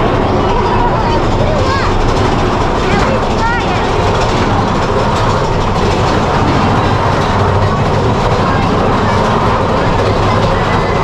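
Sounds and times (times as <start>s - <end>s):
roller coaster rattling and rumbling: 0.0s - 11.0s.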